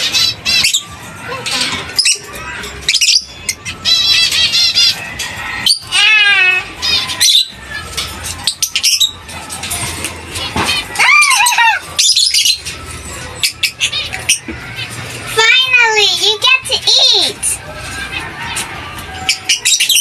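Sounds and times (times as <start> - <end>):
parrots squawking and chirping: 0.0 - 20.0.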